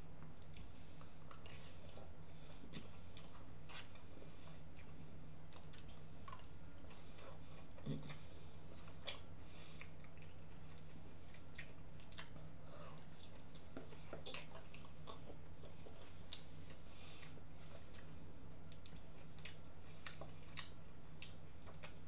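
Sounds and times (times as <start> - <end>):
person chewing: 0.4 - 22.0.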